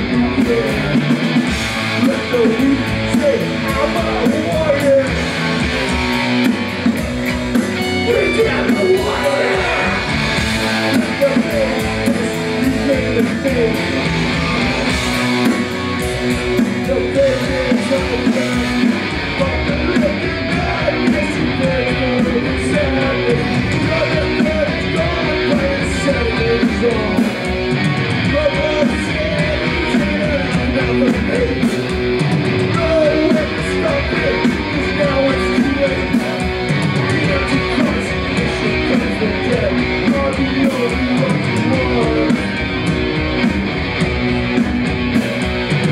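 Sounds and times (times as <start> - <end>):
bass: 0.0 - 45.9
distorted electric guitars: 0.0 - 45.9
fast drums: 0.0 - 45.9.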